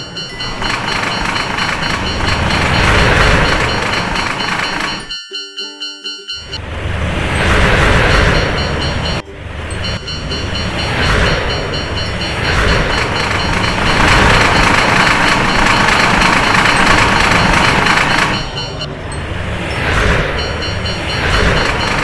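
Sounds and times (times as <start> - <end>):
train rushing past on rails: 0.0 - 5.2, 6.4 - 22.0
level-crossing warning bell: 0.0 - 22.0.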